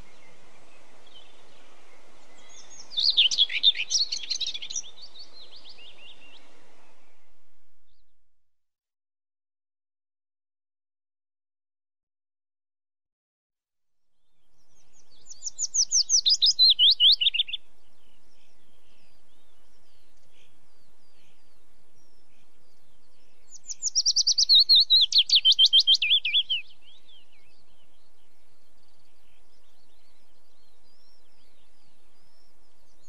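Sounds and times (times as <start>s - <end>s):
outdoor ambience hiss: 0.0s - 8.3s, 14.2s - 33.0s
songbird singing: 0.0s - 8.4s, 14.1s - 33.0s.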